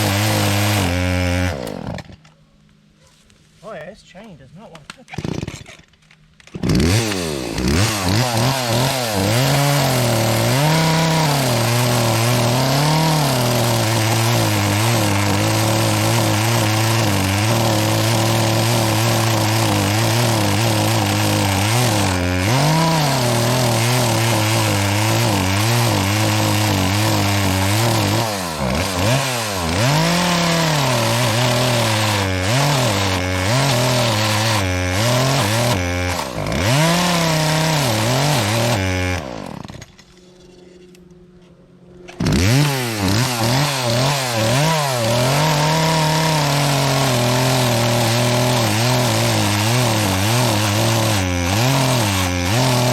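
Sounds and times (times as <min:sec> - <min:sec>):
chainsaw cutting tree trunk: 0:00.0 - 0:02.2, 0:05.1 - 0:05.8, 0:06.5 - 0:40.0, 0:42.1 - 0:52.9.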